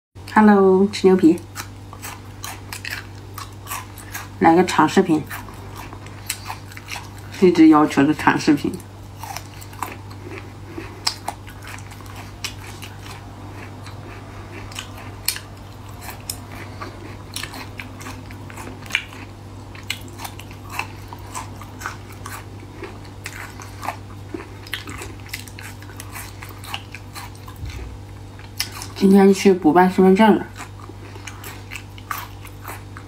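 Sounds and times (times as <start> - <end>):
steady low hum: 0.2 - 33.0
chewing crisp crunches: 1.4 - 7.4, 8.6 - 29.0, 30.5 - 33.0.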